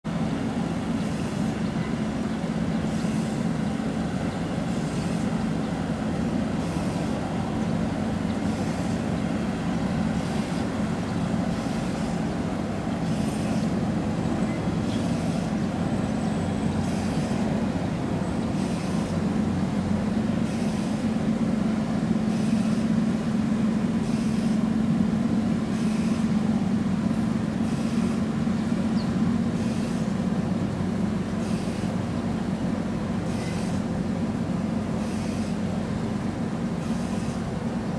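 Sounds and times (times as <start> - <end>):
low engine drone: 0.0 - 37.9.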